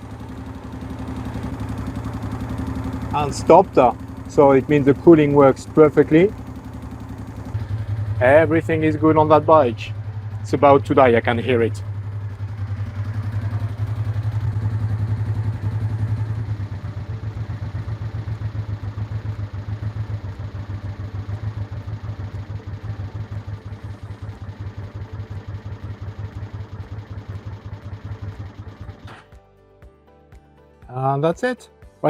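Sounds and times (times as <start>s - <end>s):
motorcycle engine idling unevenly: 0.0s - 29.4s.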